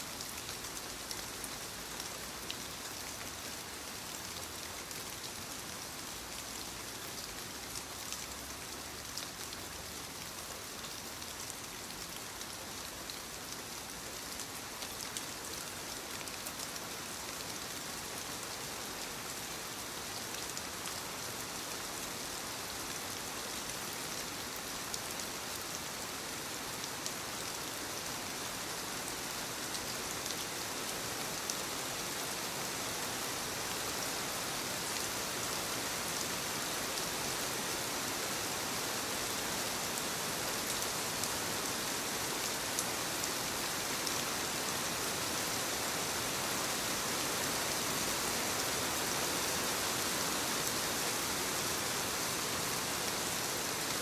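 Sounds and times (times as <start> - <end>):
rain pattering on leaves: 0.0 - 54.0.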